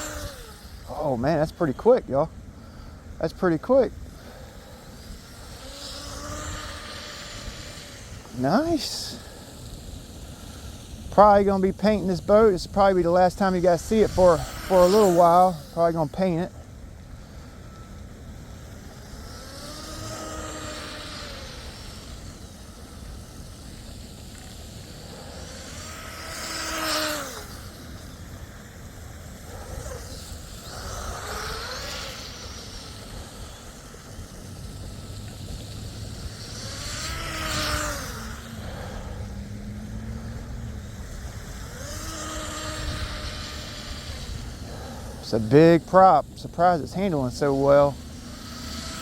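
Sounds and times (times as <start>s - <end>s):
rc boat motor whining: 0.0s - 49.0s
steady low rumble: 0.0s - 49.0s.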